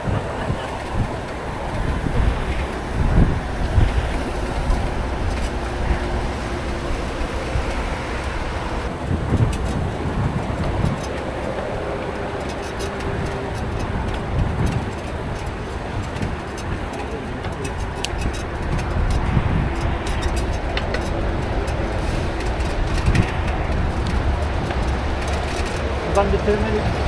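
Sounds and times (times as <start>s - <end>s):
bicycle tyre and road noise: 0.0s - 27.0s
wind on microphone: 0.0s - 27.0s.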